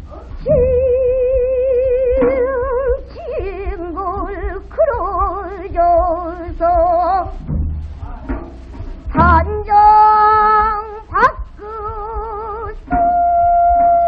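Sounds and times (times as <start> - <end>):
woman singing with vibrato: 0.0 - 7.4, 9.1 - 14.0
low steady hum: 0.0 - 14.0.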